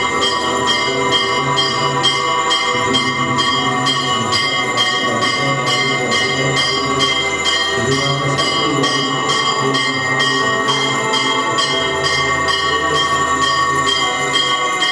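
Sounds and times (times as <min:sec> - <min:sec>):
bells ringing rapidly: 0:00.0 - 0:14.9.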